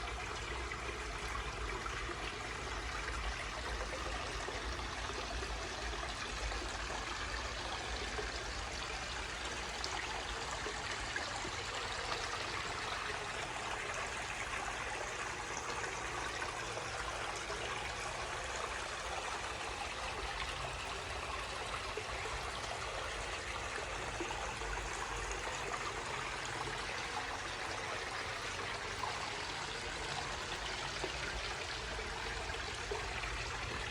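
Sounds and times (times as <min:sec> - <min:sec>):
water splashing over small waterfall: 0:00.0 - 0:33.9.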